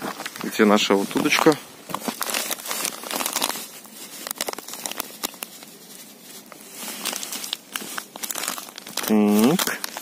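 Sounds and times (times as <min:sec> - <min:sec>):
crinkling and crackling: 0:00.0 - 0:10.0.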